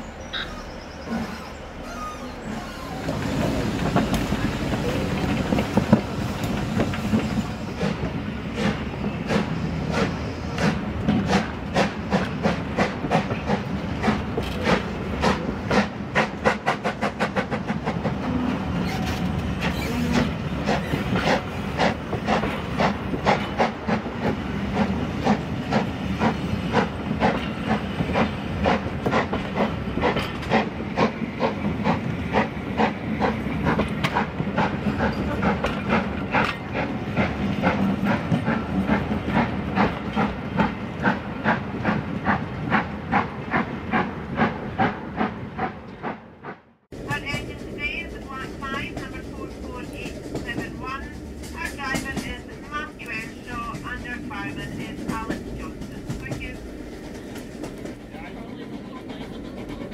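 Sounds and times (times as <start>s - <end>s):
train wheels clicking over rail joints: 1.1s - 59.9s.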